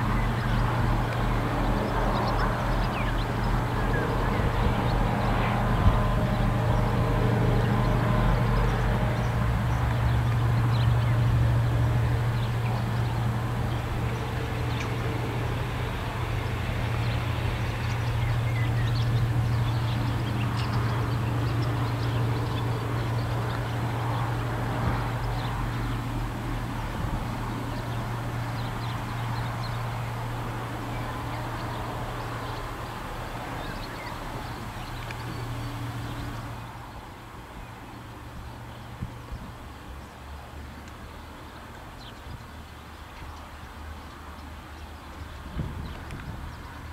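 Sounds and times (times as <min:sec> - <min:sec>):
diesel locomotives droning: 0:00.0 - 0:42.0.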